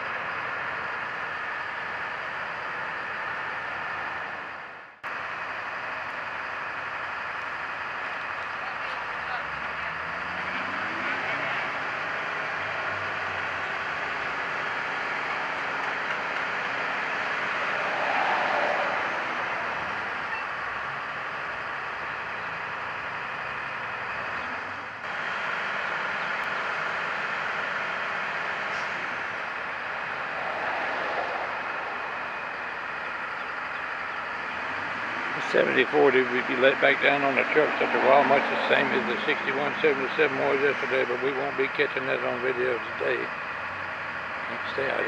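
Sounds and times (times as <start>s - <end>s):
diesel engines droning: 0.0s - 45.0s.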